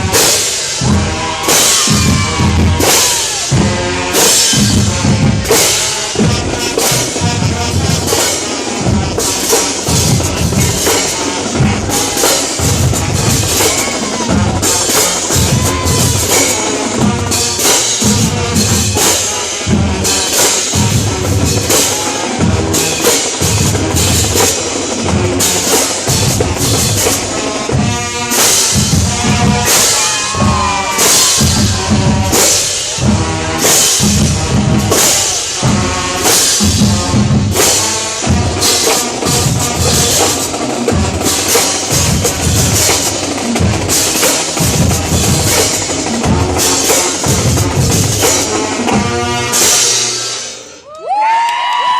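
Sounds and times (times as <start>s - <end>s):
snare drums: 0.0s - 50.8s.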